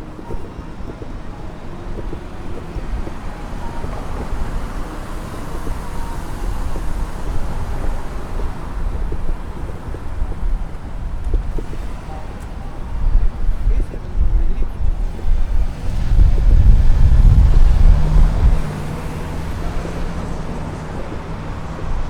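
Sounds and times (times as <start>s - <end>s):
traffic rumble: 0.0s - 22.0s
vehicle passing: 0.0s - 22.0s.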